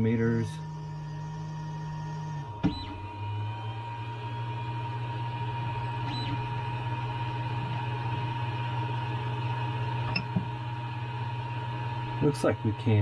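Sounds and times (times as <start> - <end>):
printer fans humming: 0.0 - 13.0.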